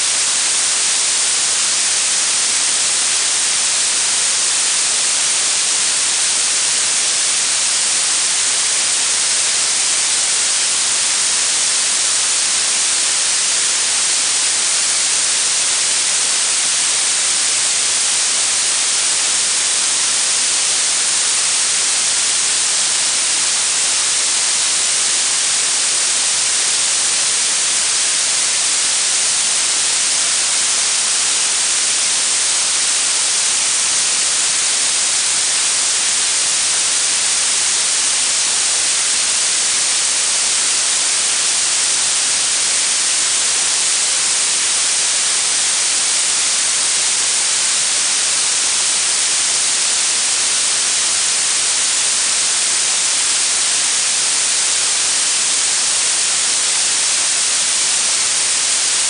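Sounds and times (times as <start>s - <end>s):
blue noise hiss: 0.0s - 59.0s.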